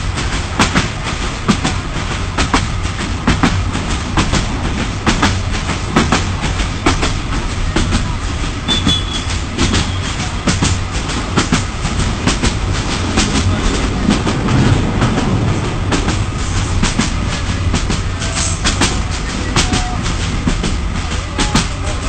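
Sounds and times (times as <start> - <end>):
train low rumble: 0.0 - 22.0
wheels clicking on track: 0.0 - 22.0.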